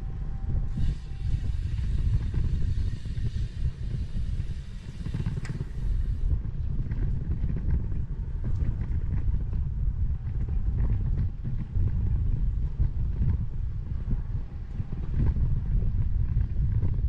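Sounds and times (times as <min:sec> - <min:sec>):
bicycle riding rumble: 0:00.0 - 0:17.0
wind buffeting microphone: 0:00.0 - 0:17.0.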